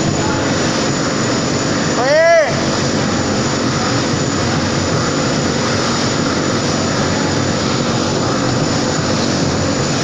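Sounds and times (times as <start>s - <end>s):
powder mixer motor running: 0.0s - 10.0s.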